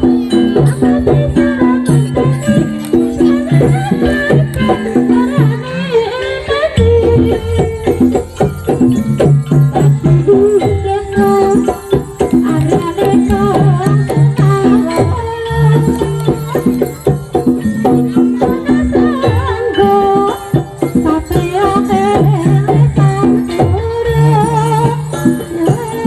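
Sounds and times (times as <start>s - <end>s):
folk ensemble music: 0.0s - 26.0s.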